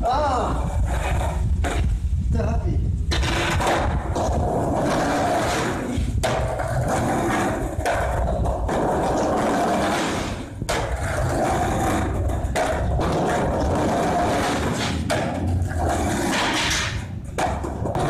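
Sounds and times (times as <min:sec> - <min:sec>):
skateboard wheels rolling on stone: 0:00.2 - 0:02.1, 0:03.1 - 0:18.0.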